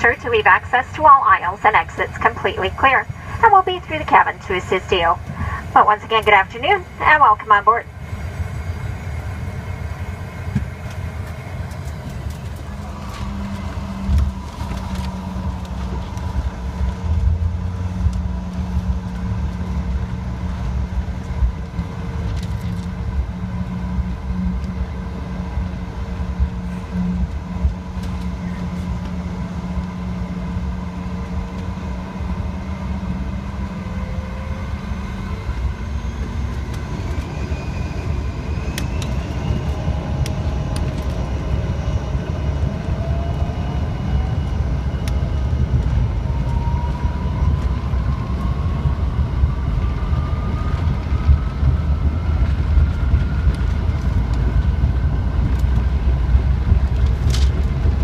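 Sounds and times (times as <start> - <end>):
aircraft cabin hum: 0.0 - 37.3, 38.0 - 58.0
jet engine spooling up whine: 0.0 - 58.0.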